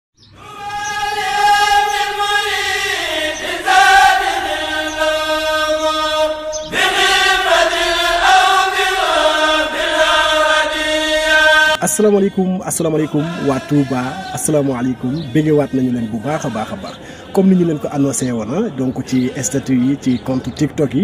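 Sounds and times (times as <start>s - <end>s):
vocal chant with held notes: 0.3s - 21.0s.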